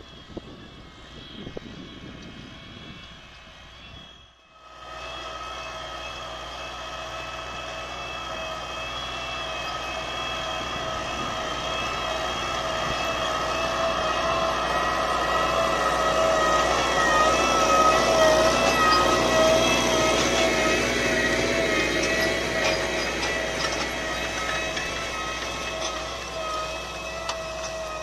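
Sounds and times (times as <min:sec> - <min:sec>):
tractor engine under load: 0:04.6 - 0:28.0.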